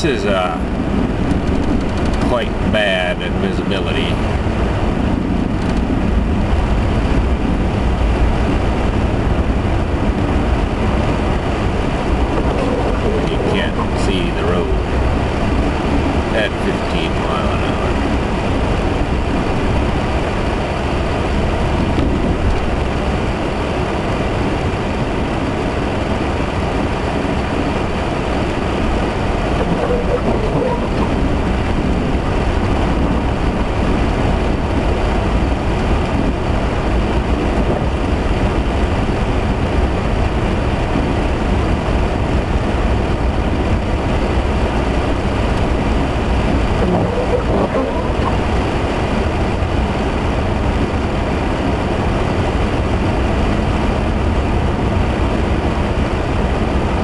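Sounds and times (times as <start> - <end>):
vehicle interior rumble: 0.0 - 57.0.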